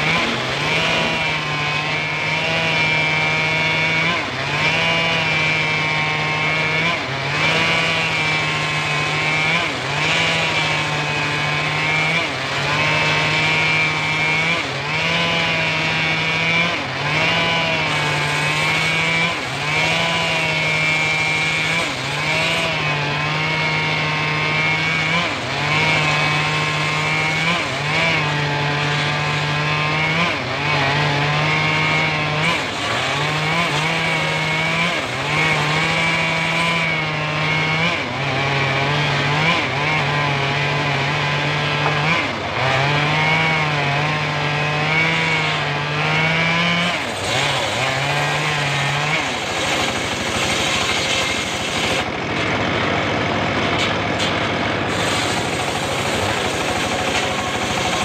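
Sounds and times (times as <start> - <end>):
engine-driven circular saw running: 0.0 - 58.0.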